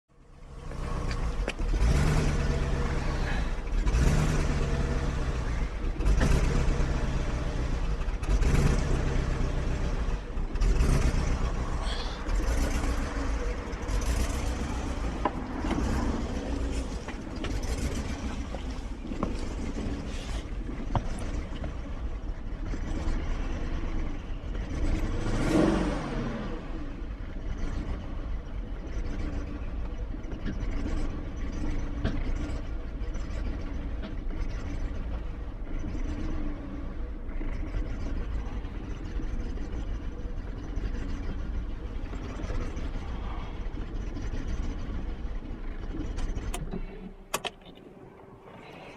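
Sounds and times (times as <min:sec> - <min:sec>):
car engine running rough: 0:00.1 - 0:48.9.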